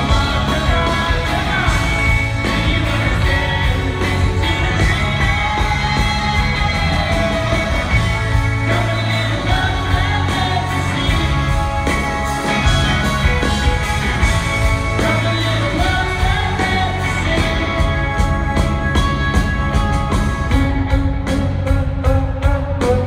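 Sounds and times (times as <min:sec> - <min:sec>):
lead singer singing: 0:00.0 - 0:19.1
rock band playing live: 0:00.0 - 0:23.0.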